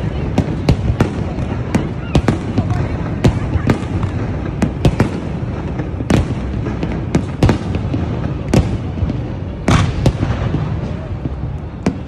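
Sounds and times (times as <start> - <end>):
fireworks bangs: 0.0 - 12.0
low rumble of explosions: 0.0 - 12.0.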